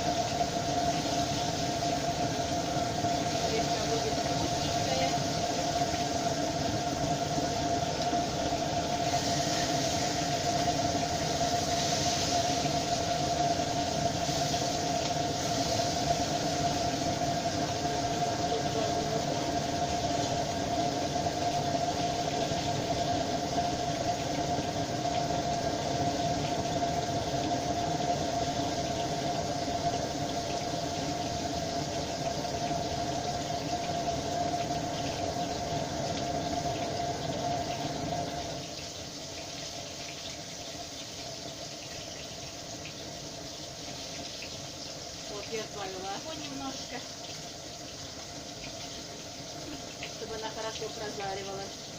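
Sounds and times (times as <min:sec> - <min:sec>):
fish frying in oil: 0:00.0 - 0:51.9.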